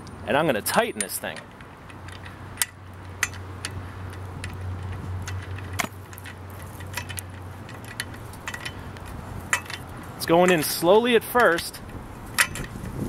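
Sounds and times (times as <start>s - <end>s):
steady low hum: 0.0s - 13.0s
socket ratchet clicking: 0.9s - 12.8s.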